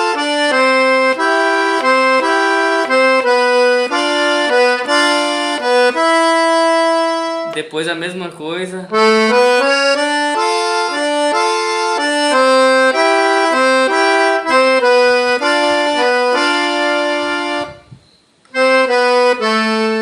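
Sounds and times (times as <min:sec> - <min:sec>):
accordion melody in harmonies: 0:00.0 - 0:20.0.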